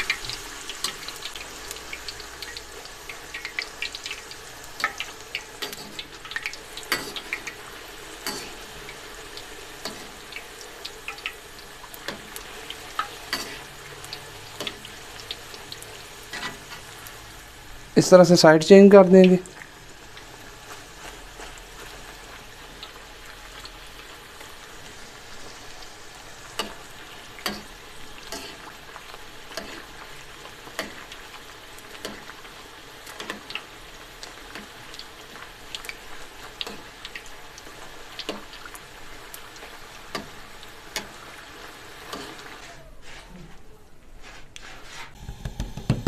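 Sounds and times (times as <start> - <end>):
dough deep-frying sizzle: 0.0 - 46.0.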